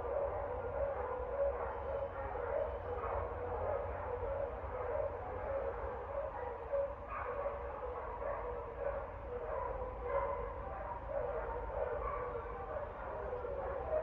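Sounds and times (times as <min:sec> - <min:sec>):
dogs barking: 0:00.0 - 0:14.0.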